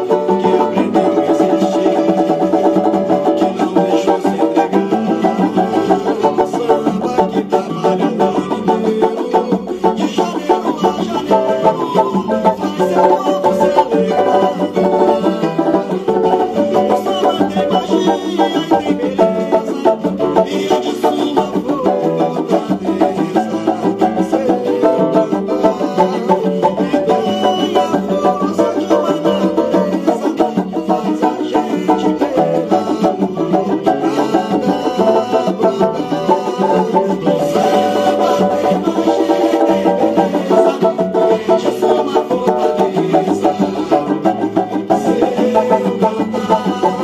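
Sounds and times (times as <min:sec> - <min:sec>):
banjo strummed in samba rhythm: 0:00.0 - 0:47.0.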